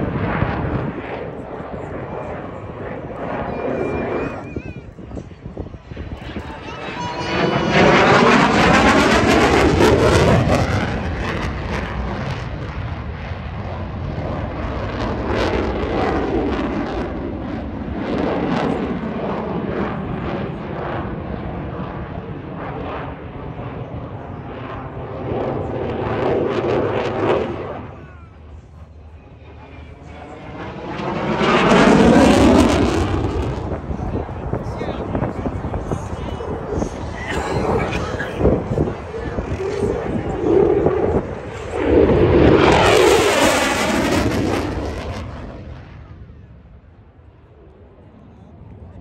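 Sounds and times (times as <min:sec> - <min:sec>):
fighter jet engine roar: 0:00.0 - 0:49.0.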